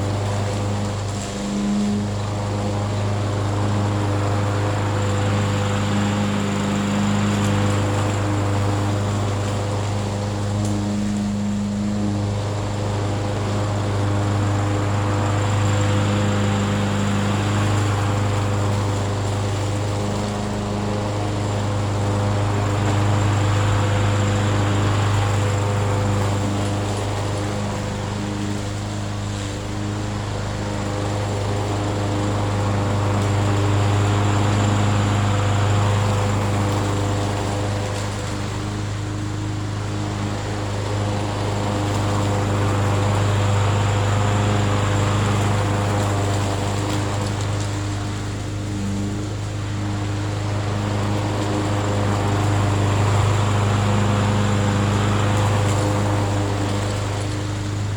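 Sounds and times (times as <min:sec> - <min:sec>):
lawn mower engine droning: 0:00.0 - 0:57.9.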